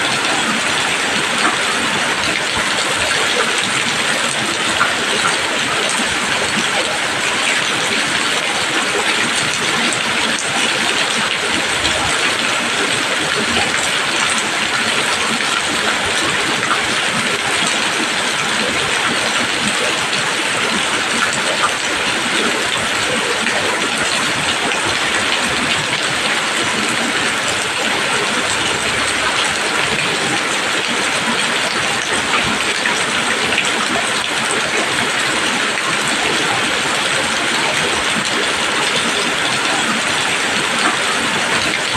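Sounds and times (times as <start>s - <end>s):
rain falling on leaves: 0.0s - 41.9s.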